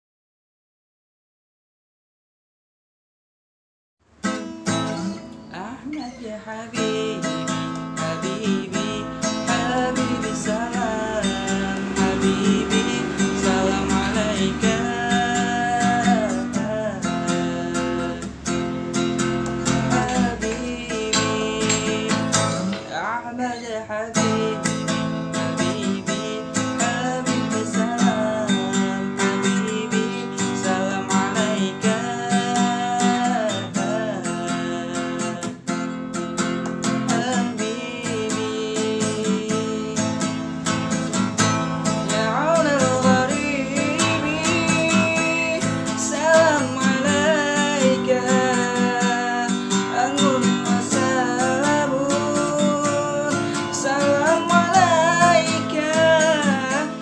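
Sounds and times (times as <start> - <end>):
strummed acoustic guitar: 4.1 - 57.0
man singing: 4.8 - 57.0.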